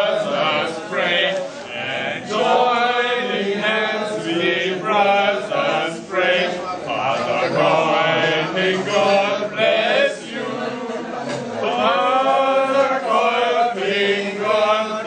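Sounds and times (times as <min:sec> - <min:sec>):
men singing a hymn: 0:00.0 - 0:15.0.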